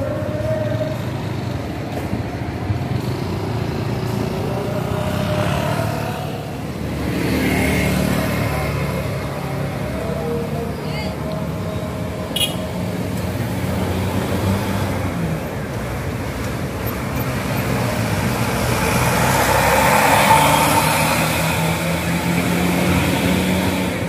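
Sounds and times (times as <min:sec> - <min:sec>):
traffic noise: 0:00.0 - 0:24.0
vehicle engines running: 0:00.0 - 0:24.0.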